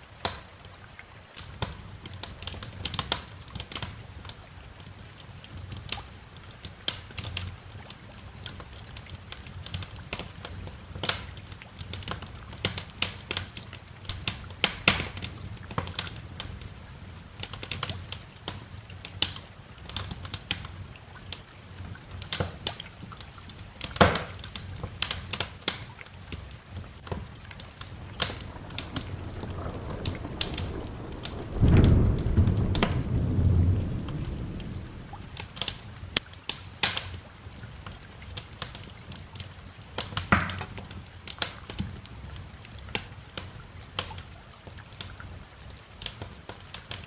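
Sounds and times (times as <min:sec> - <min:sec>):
fire snapping and popping: 0:00.2 - 0:00.5, 0:01.4 - 0:47.0
wood fire crackling: 0:00.2 - 0:47.0.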